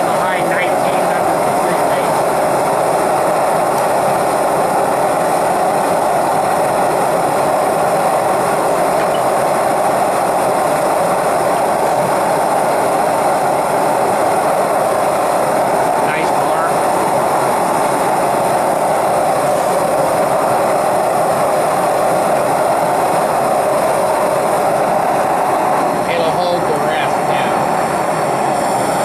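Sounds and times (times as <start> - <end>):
gas torch flame rushing: 0.0 - 29.0.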